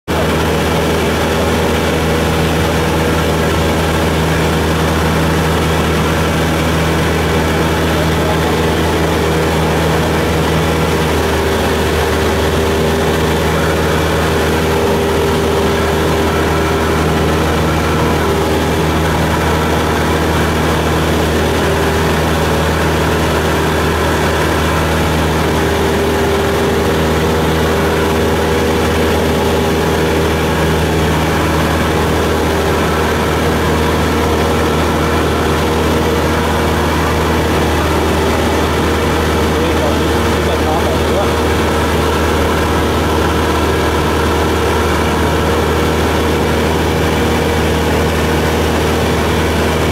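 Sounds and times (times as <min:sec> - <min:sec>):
light aircraft engine droning: 0:00.1 - 0:49.9.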